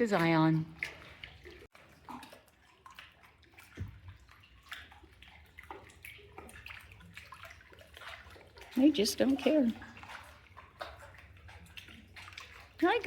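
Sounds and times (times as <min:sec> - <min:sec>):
river water lapping and dripping: 0:00.0 - 0:13.0
small splashes: 0:00.0 - 0:13.0.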